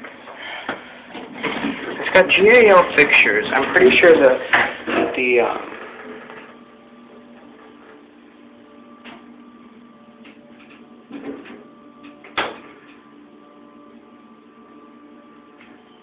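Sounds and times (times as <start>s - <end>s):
elevator pump motor hum: 0.0s - 16.0s.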